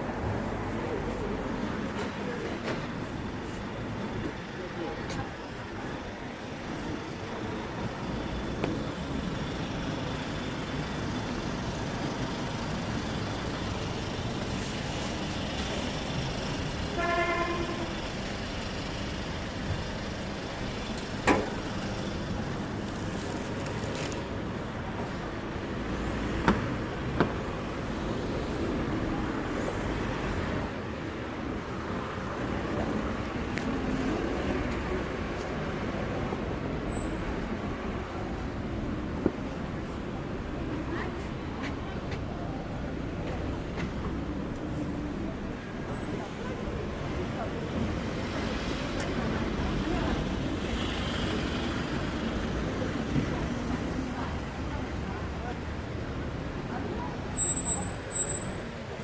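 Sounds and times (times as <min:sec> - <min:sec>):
low traffic rumble: 0:00.0 - 0:59.0
outdoor hubbub: 0:00.0 - 0:59.0.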